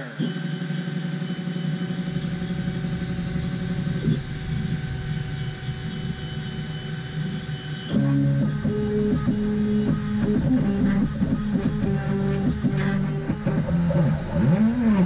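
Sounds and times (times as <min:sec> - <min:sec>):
fan humming: 0:00.0 - 0:15.0
stepper motors whining: 0:00.0 - 0:15.0
guitar music: 0:02.0 - 0:15.0.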